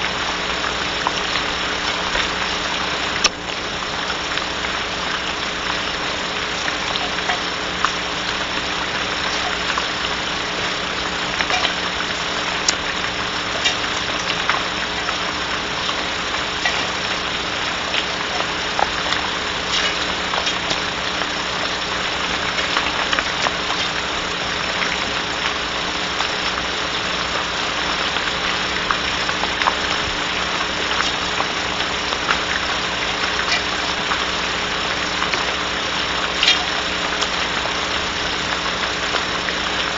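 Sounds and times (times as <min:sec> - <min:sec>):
rain pattering on wooden box: 0:00.0 - 0:39.9
steady electrical hum: 0:00.0 - 0:39.9.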